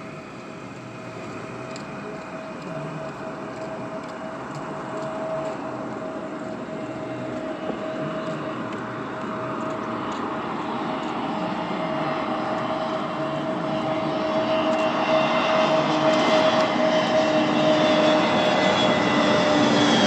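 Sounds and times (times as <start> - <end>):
distant jet engine whine: 0.0 - 20.0.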